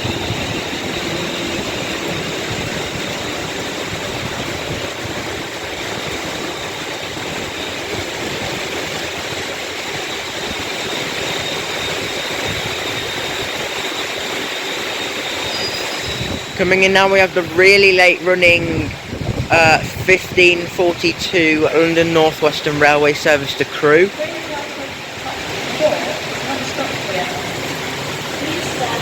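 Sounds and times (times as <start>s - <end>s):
faint electric train whine: 0.0s - 29.0s
heavy rain: 0.0s - 29.0s
wind: 0.0s - 29.0s.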